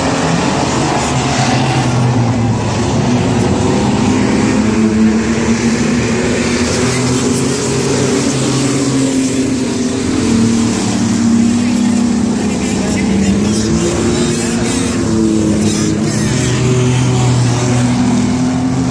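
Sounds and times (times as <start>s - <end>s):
racing truck engines droning: 0.0s - 18.9s.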